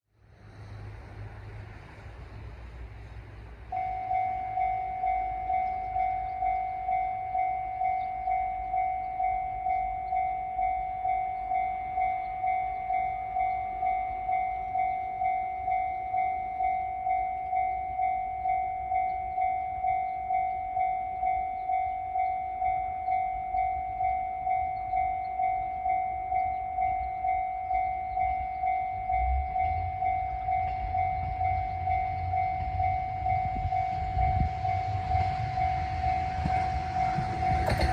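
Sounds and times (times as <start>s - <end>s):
diesel railcar rumble: 0.1s - 37.9s
level crossing warning bell: 3.7s - 37.9s.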